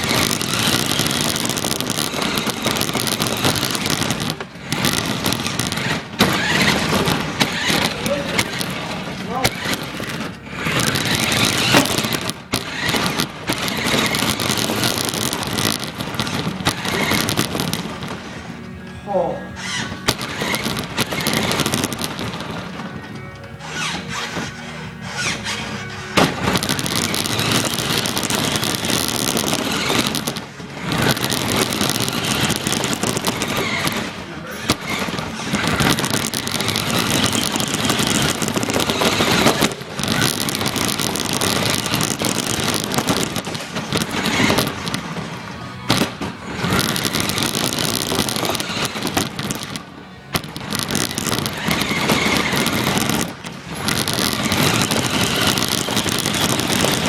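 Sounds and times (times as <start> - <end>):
rc car driving: 0.0 - 18.7, 19.6 - 57.0.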